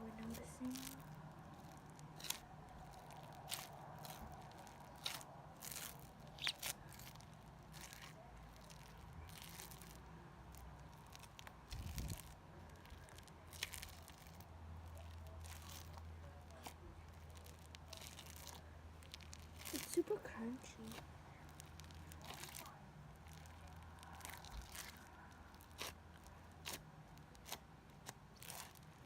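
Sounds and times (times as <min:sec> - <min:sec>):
slime crunchy crackles: 0:00.0 - 0:29.0.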